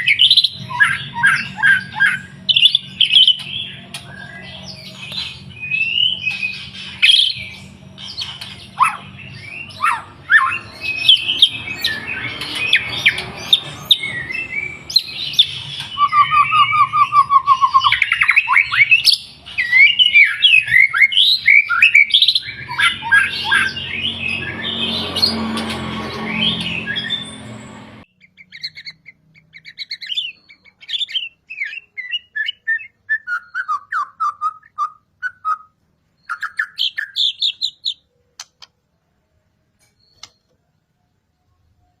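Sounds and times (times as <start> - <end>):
songbird singing whistles and chirps: 0.0 - 38.7, 39.8 - 42.0.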